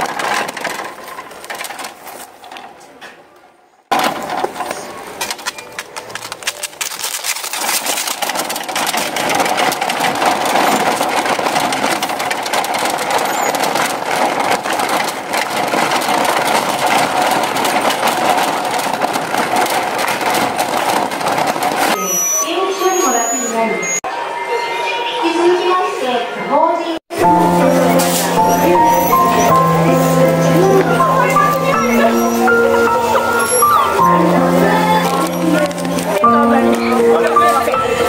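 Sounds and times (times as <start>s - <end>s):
shopping cart rattling over asphalt: 0.0s - 3.0s, 3.9s - 22.0s, 27.1s - 38.0s.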